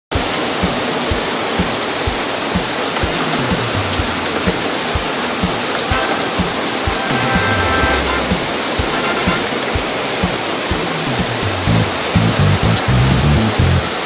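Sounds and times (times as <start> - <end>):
loud rushing hiss: 0.1 - 14.0
music with steady beat: 0.1 - 14.0.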